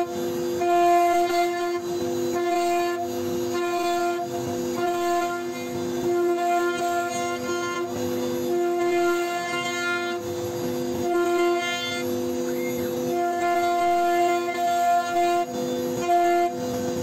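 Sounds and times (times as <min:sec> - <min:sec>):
router spindle whining: 0:00.0 - 0:17.0.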